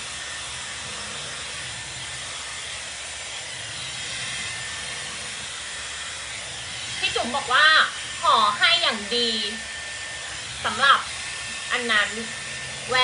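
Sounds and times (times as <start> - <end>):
hot-air styler rushing hiss: 0.0 - 13.0.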